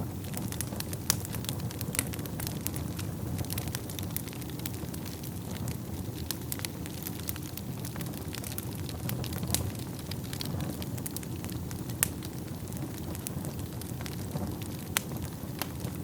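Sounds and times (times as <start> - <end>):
burning wood crackling and popping: 0.0 - 16.0
roar of fire flames: 0.0 - 16.0.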